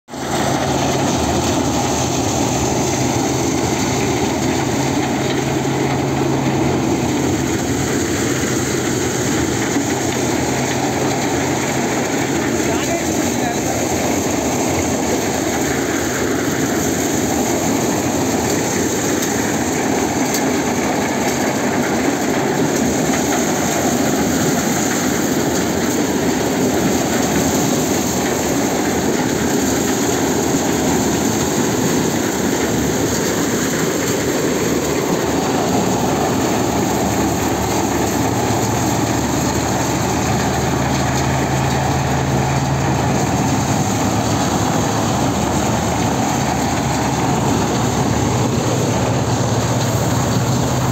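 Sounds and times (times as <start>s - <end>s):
low engine hum: 0.1s - 25.5s, 26.2s - 50.9s
farm machinery running: 0.1s - 50.9s.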